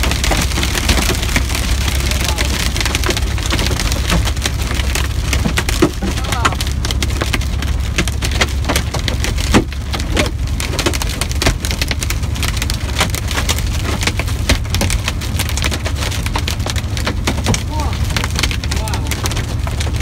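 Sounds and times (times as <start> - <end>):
hail pelting windshield: 0.0 - 20.0.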